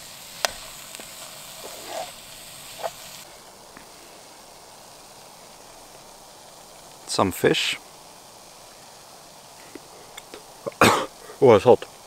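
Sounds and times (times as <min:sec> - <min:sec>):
fish and mushrooms sizzling in pan: 0:00.0 - 0:12.0.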